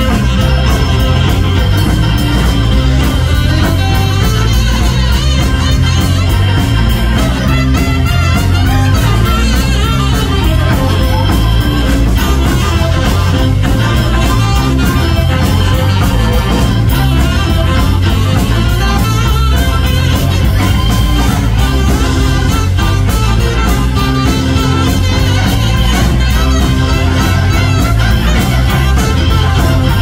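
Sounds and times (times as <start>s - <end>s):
live blues band playing: 0.0s - 30.0s
saxophone playing: 0.0s - 30.0s.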